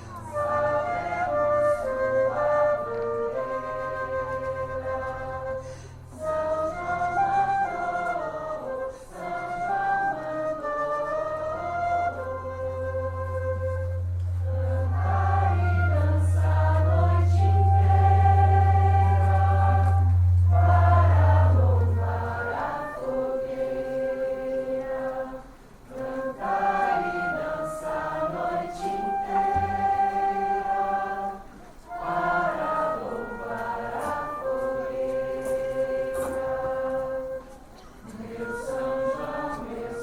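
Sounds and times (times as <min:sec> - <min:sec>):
group singing in unison: 0:06.2 - 0:13.0, 0:14.4 - 0:40.0.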